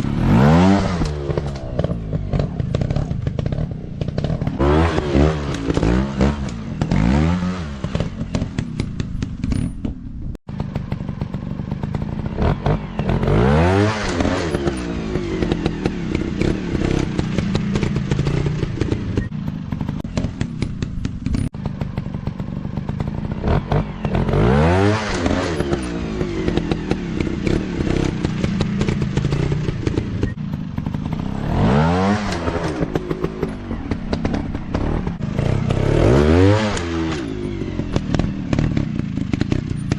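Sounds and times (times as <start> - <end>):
dirt bike engines revving: 0.0 - 9.6, 10.6 - 39.9.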